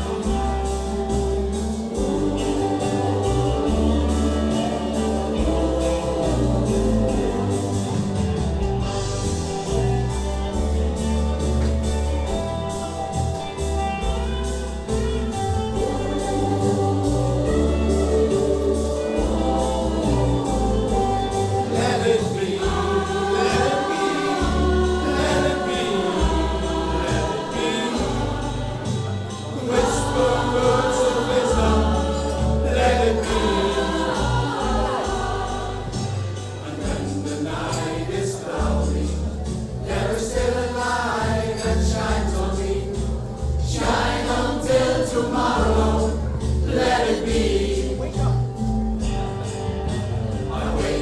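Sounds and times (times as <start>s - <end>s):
bass line and steady beat: 0.0s - 51.0s
choral singing: 0.0s - 51.0s.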